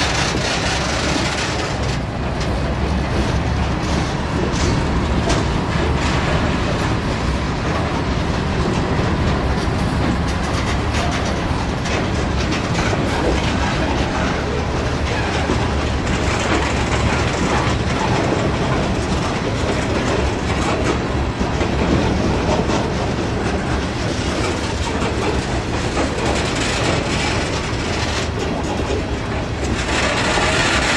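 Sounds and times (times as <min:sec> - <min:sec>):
steel wheels rumbling on rail: 0:00.0 - 0:30.9
wheels clicking over rail joints: 0:00.0 - 0:30.9.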